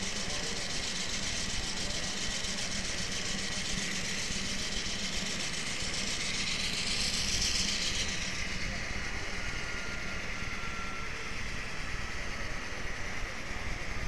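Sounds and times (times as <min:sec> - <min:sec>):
hiss: 0:00.0 - 0:14.0
locomotive engine humming: 0:00.0 - 0:14.0.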